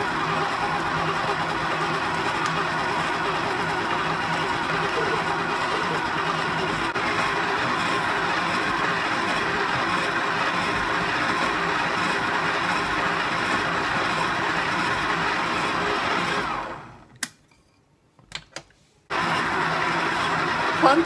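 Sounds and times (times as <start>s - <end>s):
stand mixer motor running: 0.0s - 17.0s, 19.1s - 21.0s.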